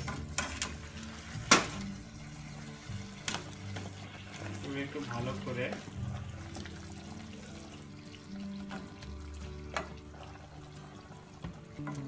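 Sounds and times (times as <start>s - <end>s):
background music with held notes: 0.0s - 12.0s
syrup sloshing in a pan: 0.0s - 12.0s.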